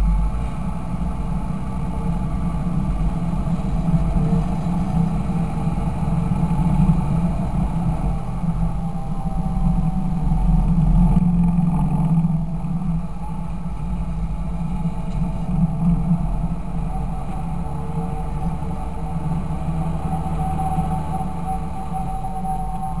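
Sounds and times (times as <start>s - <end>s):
tractor diesel engine droning: 0.0s - 23.0s.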